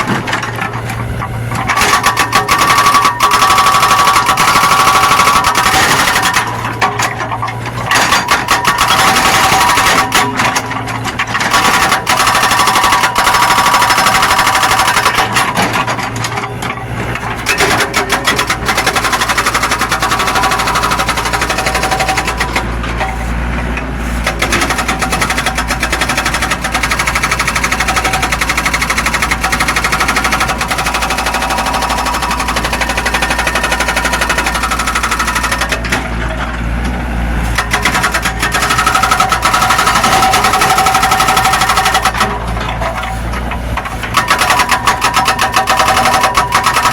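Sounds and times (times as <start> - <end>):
excavator diesel engine: 0.0 - 46.9
rattling clatter: 0.0 - 46.9.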